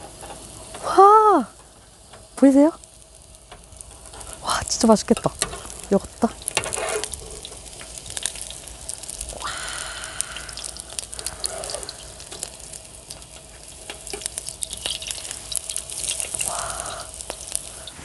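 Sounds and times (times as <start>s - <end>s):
pancakes sizzling in oil: 0.0s - 18.0s
spatulas turning pancakes: 1.8s - 18.0s.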